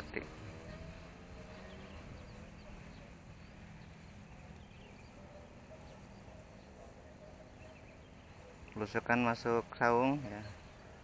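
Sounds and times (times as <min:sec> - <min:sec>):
small bird chirps: 0:00.1 - 0:09.2.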